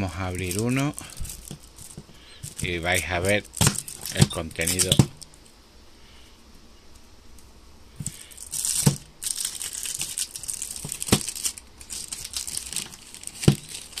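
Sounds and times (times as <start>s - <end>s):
plastic wrap crinkling and tearing: 0.0s - 5.3s, 8.0s - 14.0s.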